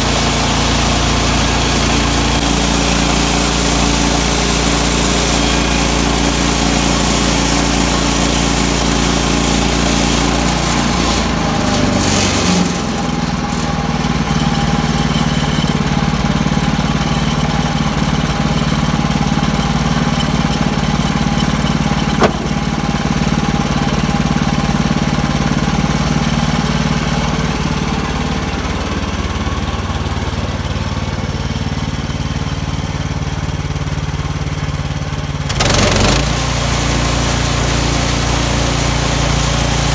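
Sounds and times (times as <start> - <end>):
sawmill engine sawing log: 0.0 - 39.9.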